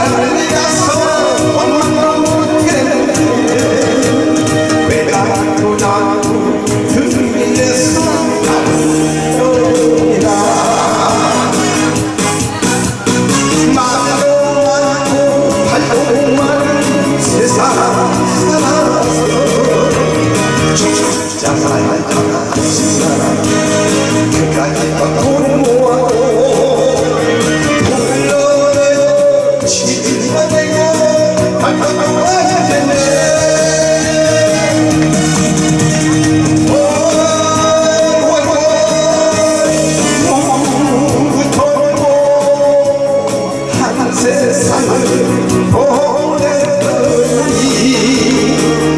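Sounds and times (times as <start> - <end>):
backing track music: 0.0 - 48.9
man singing into microphone: 0.0 - 48.9.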